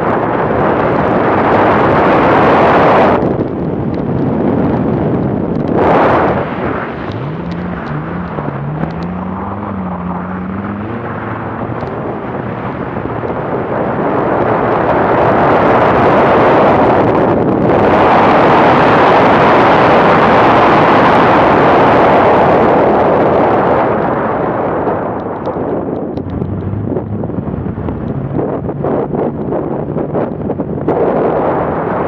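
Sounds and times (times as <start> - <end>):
wind noise: 0.0 - 32.0
car engine revving: 1.4 - 23.2, 23.8 - 32.0.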